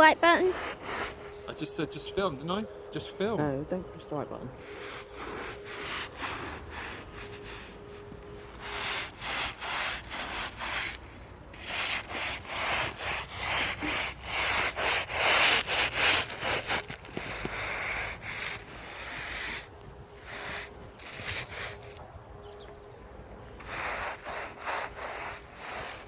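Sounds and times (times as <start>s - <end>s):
stiff broom scrubbing stone: 0.0s - 1.7s, 4.6s - 22.0s, 23.6s - 26.0s.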